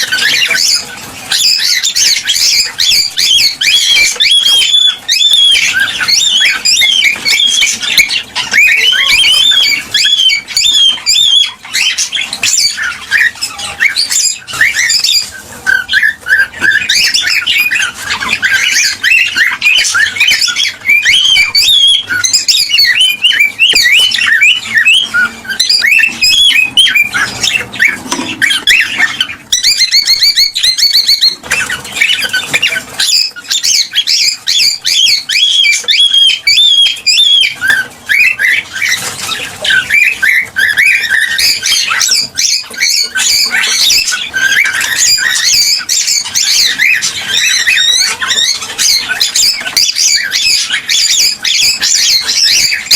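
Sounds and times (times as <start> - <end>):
cockatiels chirping and squawking: 0.0 - 52.9
fast rattling bird trill: 0.0 - 52.9.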